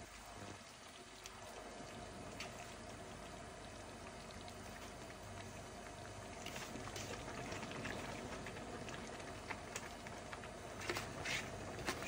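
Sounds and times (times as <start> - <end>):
stew bubbling in a pot: 0.0 - 12.0.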